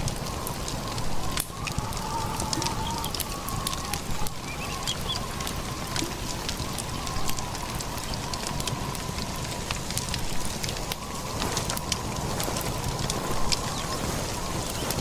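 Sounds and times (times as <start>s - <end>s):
crackling with small pops: 0.0s - 15.0s.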